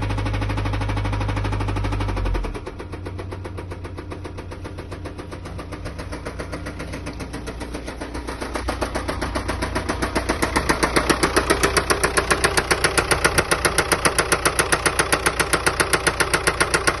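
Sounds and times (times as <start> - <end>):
diesel engine knocking: 0.0 - 17.0.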